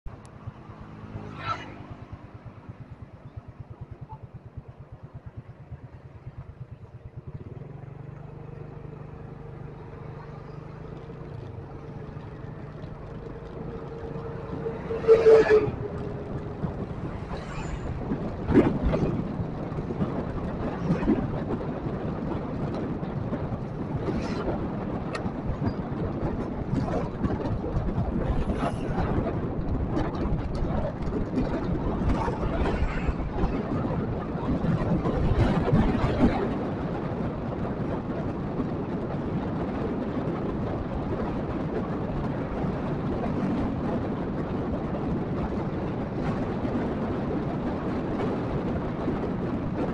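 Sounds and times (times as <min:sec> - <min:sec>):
vehicle road and engine noise: 0:00.0 - 0:49.9
traffic passing: 0:00.1 - 0:49.9.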